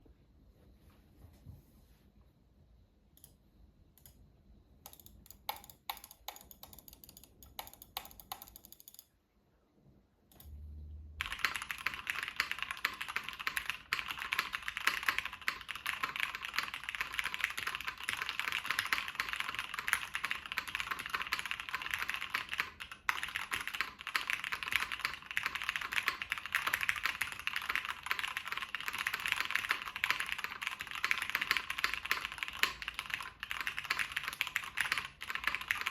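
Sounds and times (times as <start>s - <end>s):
typing on mechanical keyboard: 4.8s - 9.1s, 11.2s - 35.9s.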